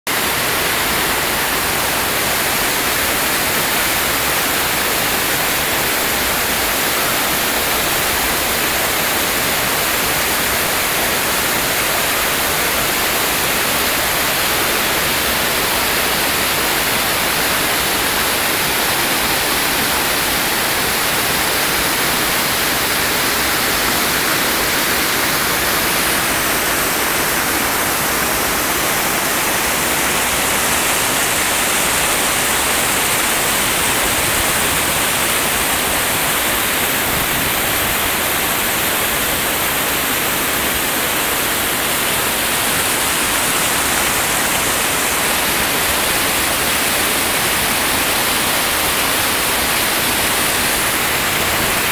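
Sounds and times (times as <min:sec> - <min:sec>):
stream rushing over boulders: 0:00.1 - 0:51.9.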